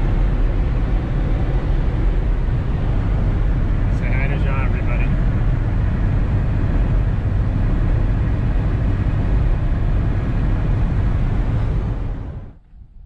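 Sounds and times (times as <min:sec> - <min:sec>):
road and wind noise inside car: 0:00.0 - 0:13.0.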